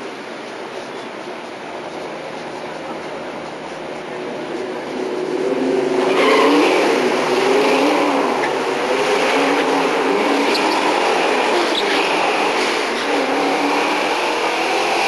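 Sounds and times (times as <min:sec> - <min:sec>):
drag racing cars accelerating: 0:00.0 - 0:15.0.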